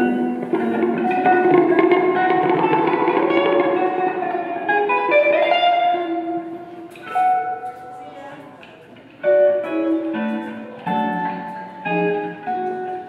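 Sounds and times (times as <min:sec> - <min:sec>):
electric guitars with effects: 0:00.0 - 0:08.1, 0:09.0 - 0:13.0.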